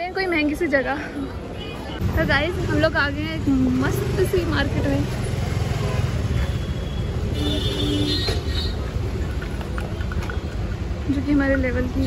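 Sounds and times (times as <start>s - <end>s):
traffic and crowd rumble: 0.0s - 12.0s.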